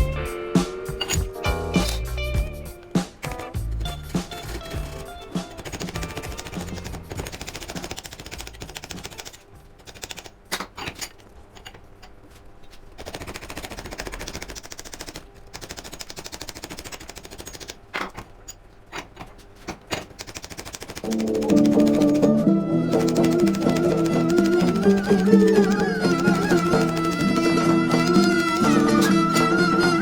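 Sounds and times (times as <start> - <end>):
rapid mechanical rattle: 0.8 - 30.0.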